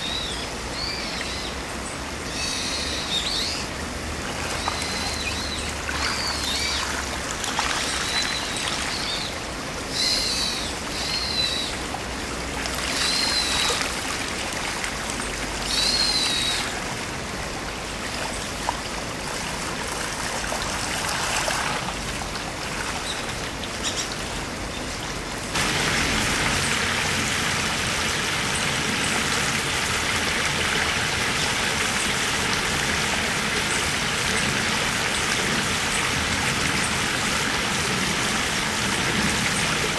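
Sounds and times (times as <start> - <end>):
stream rippling over gravel: 0.0 - 39.9.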